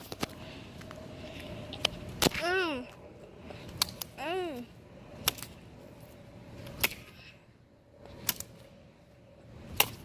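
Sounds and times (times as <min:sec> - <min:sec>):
faint background hum: 0:00.0 - 0:10.0.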